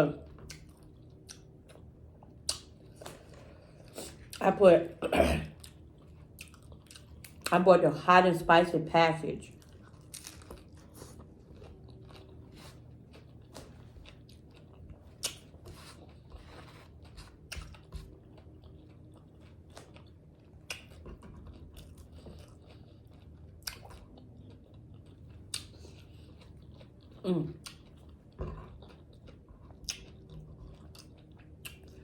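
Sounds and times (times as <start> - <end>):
person chewing crunchy food: 0.2 - 4.4, 5.5 - 7.5, 9.5 - 32.0.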